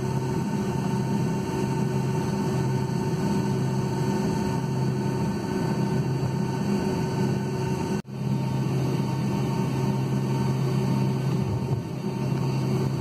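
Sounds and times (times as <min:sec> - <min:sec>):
airplane cabin engine rush: 0:00.0 - 0:13.0.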